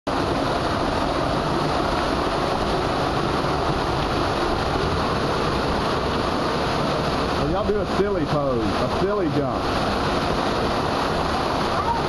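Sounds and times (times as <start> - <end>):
waterfall splashing into pool: 0.1 - 12.0.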